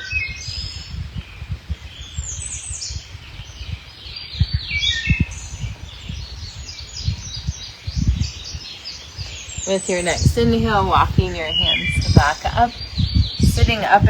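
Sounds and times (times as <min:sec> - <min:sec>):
songbirds chirping and trilling: 0:00.0 - 0:14.0
wind buffeting microphone: 0:00.0 - 0:14.0.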